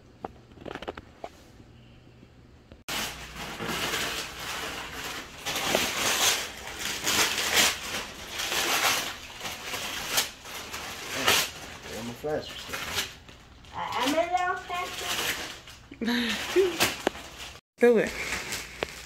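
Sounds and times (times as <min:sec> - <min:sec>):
wrapping paper rustling and tearing: 0:02.9 - 0:19.0.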